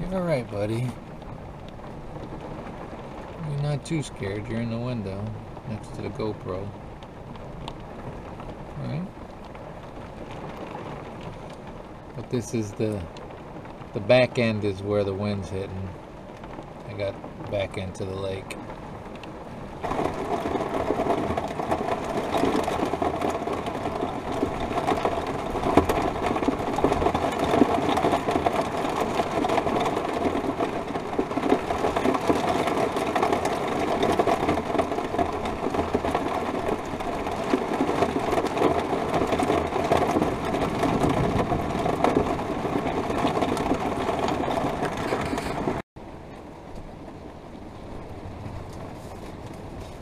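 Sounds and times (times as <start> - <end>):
heavy rain drumming on roof: 0.0 - 50.0.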